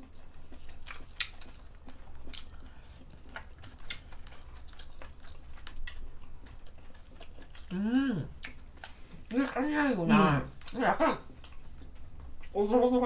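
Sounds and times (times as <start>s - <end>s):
people chewing: 0.0s - 13.0s.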